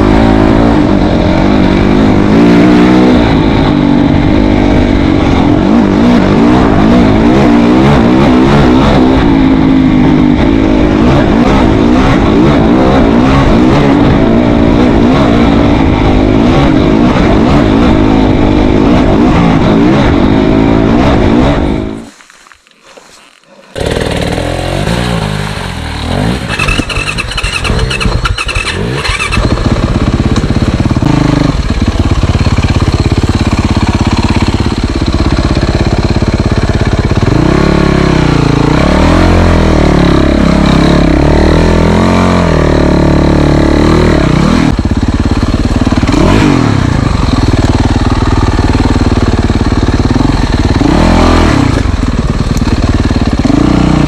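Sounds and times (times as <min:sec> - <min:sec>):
motorcycle engine revving: 0:00.0 - 0:22.3, 0:23.0 - 0:54.0.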